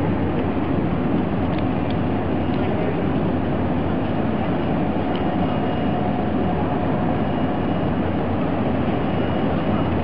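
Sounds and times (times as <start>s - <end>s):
tugboat diesel engine rumble: 0.0s - 10.0s.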